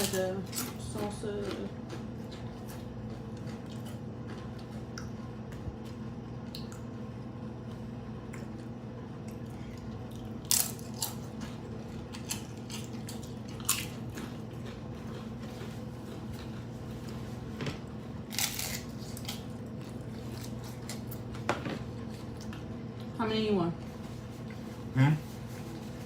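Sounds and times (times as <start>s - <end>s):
crunchy tortilla being chewed: 0.0s - 23.2s
low electrical hum: 0.0s - 26.0s.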